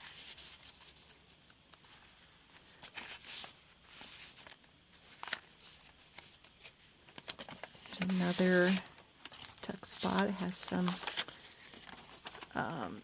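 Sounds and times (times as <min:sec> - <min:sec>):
paper pages rustling: 0:00.0 - 0:12.7.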